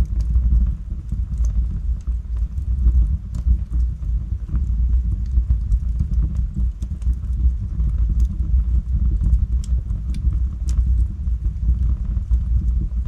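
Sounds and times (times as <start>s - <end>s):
fire rumbling: 0.0s - 13.0s
wood crackling and popping: 0.0s - 13.0s.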